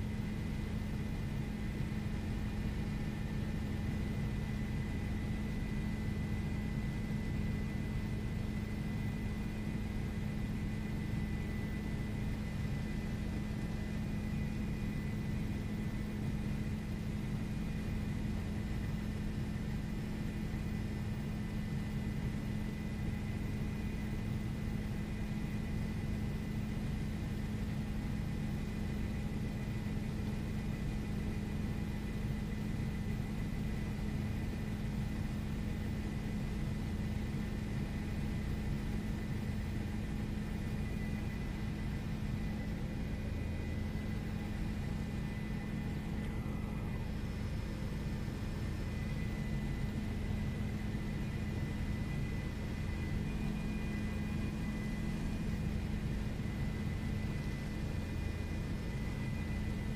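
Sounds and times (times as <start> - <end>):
faint high whine: 0.0 - 59.9
helicopter engine and rotor drone: 0.0 - 59.9.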